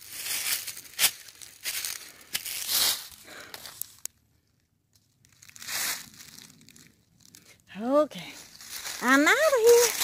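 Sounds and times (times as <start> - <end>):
footsteps on dry leaves: 0.0 - 4.0, 5.2 - 10.0.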